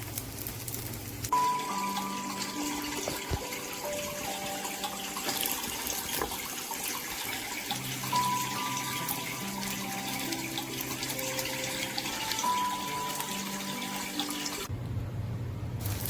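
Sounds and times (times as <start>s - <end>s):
background music with held notes: 1.3s - 14.7s.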